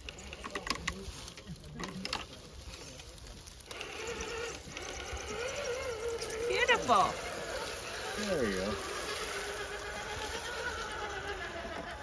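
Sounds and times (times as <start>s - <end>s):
motor and gears whining: 1.8s - 12.0s.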